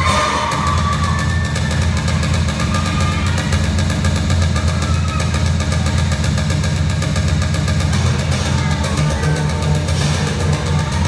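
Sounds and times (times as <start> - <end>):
bass-heavy music over sound system: 0.0 - 11.0.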